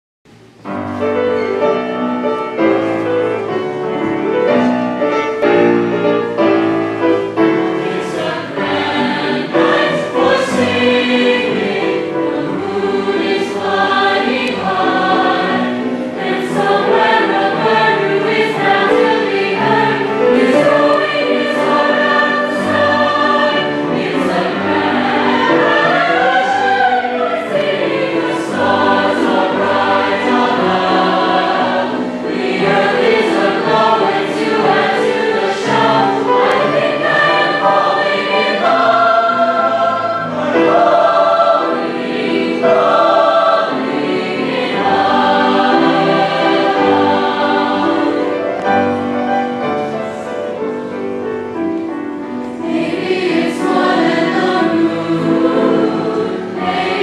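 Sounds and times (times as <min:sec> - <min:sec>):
choir singing in harmony: 0:01.0 - 0:57.0.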